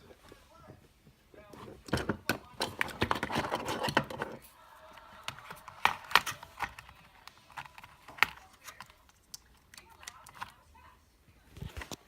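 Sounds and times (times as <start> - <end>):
handling noise: 0.6 - 10.6.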